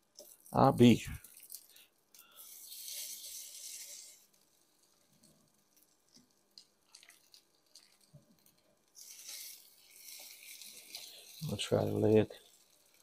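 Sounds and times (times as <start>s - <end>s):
beef sizzling in hot oil: 0.0s - 13.0s.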